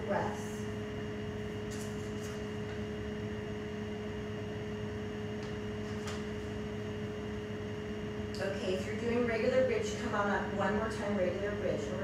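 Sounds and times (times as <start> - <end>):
background hum and hiss: 0.0 - 12.0.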